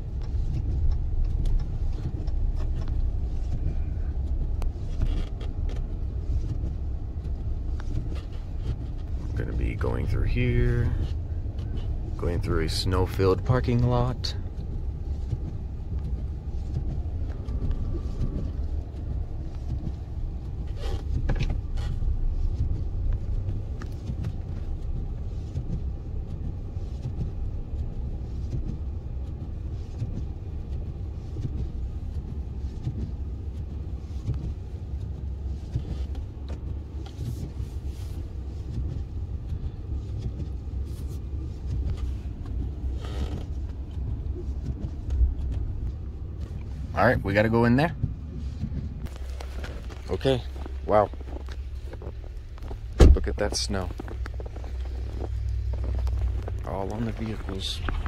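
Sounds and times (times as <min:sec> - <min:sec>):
truck engine and tyres in snow: 0:00.0 - 0:58.0.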